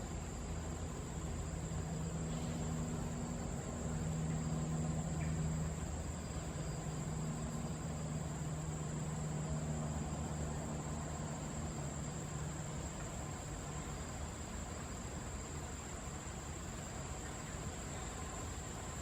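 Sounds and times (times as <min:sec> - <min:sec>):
constant hiss: 0:00.0 - 0:19.0
insect high-pitched drone: 0:00.0 - 0:19.0.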